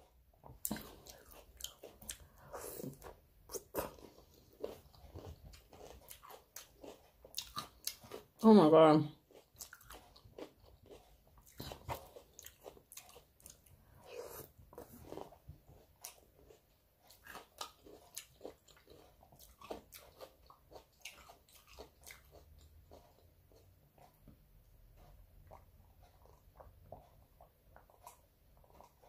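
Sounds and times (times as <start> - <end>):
person chewing: 0.0 - 8.4, 9.1 - 29.0.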